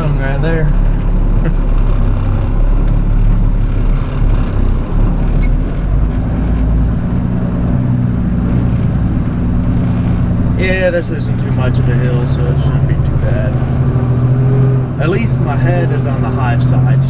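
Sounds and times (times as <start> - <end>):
truck engine running at low speed: 0.0 - 17.0.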